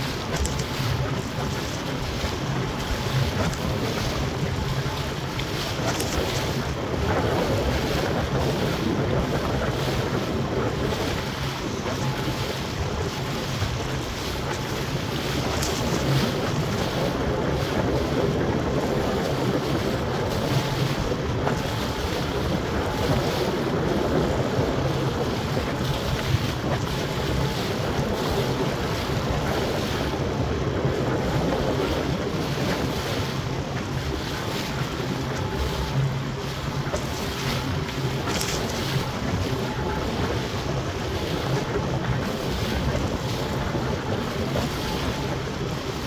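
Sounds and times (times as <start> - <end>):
water splashing against boat hull: 0.0 - 46.0
wind buffeting microphone: 0.0 - 46.0.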